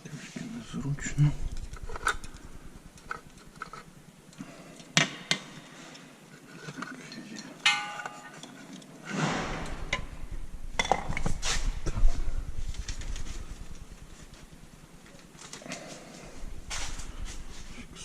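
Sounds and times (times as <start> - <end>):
rustling and handling noise: 0.0 - 18.0.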